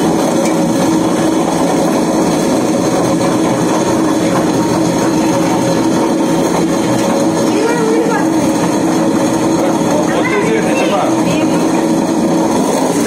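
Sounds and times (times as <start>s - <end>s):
wet grinder motor hum: 0.0s - 13.0s.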